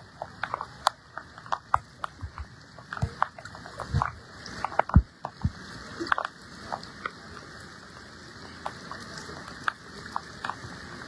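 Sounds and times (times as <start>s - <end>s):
floodwater splashing and sloshing: 0.0s - 11.0s.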